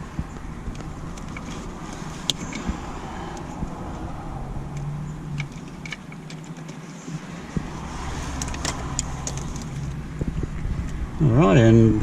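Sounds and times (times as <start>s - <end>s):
light clicks and rustles: 0.0s - 4.1s, 4.7s - 11.0s
low steady rumble: 0.0s - 6.5s, 7.1s - 12.0s.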